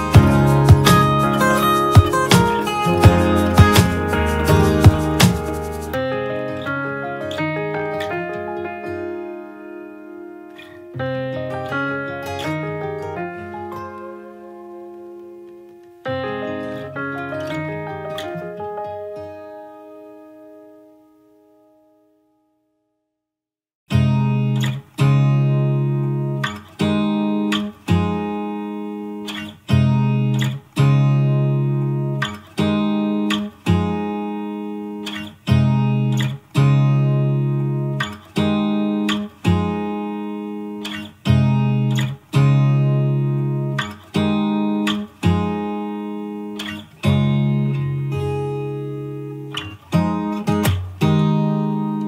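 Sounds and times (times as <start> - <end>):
guitar chords plucked: 0.0 - 22.1, 23.9 - 52.0.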